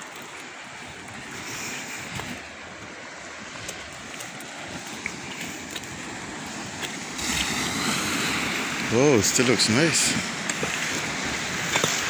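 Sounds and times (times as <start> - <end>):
sea washing on rocky shore: 0.0 - 12.0.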